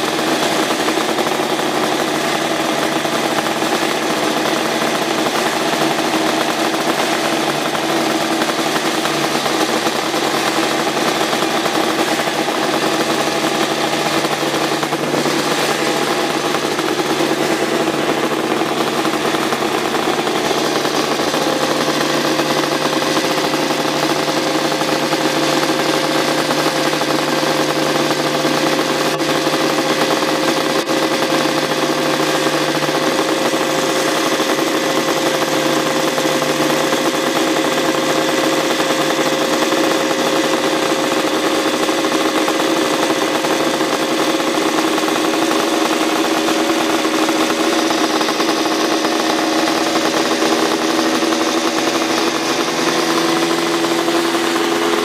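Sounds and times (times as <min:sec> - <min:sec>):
racing engine running steadily: 0:00.0 - 0:55.0.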